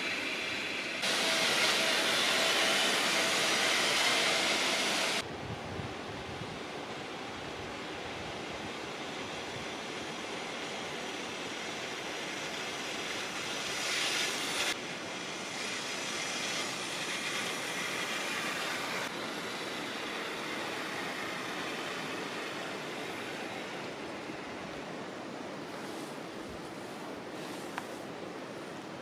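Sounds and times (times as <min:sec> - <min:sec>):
river flowing: 0:00.0 - 0:29.0.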